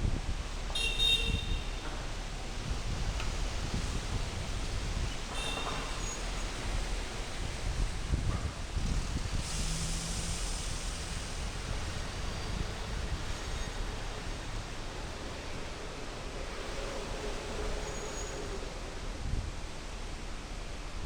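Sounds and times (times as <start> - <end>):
outdoor ambient noise: 0.0 - 21.0.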